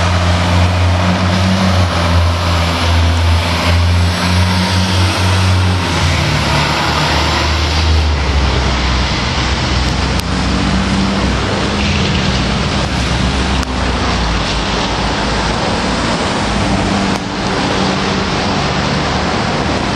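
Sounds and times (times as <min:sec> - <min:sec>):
diesel engine pulling away: 0:00.0 - 0:19.9
road noise: 0:00.0 - 0:19.9.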